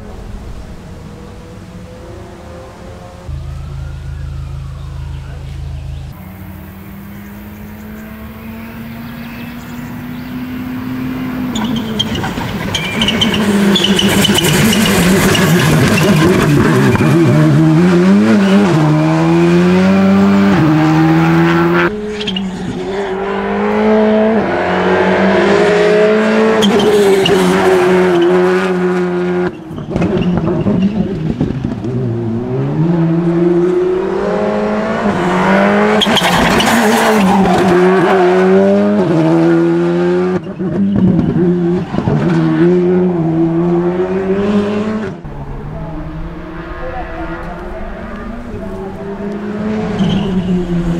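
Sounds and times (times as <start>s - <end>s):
rally car engine at full throttle: 0.0s - 50.9s.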